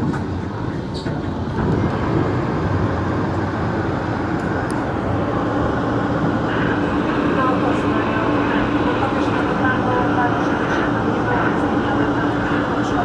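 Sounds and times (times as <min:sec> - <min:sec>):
subway train rumbling past: 0:00.0 - 0:13.0.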